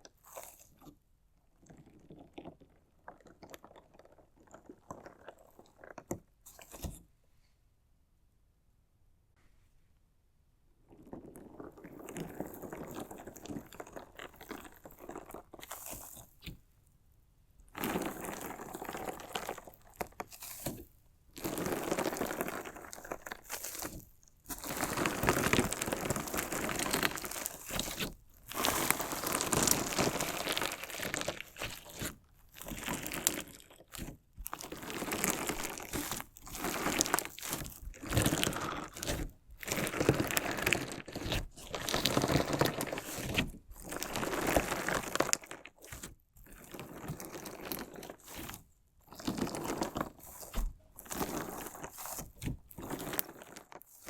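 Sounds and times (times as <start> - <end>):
slime with stones crunching: 1.6 - 7.0, 10.9 - 16.6, 17.7 - 54.0.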